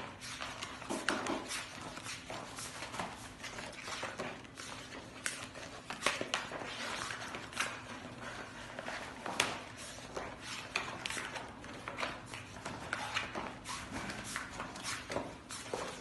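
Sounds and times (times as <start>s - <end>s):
stiff pages rustling and flapping: 0.0s - 16.0s.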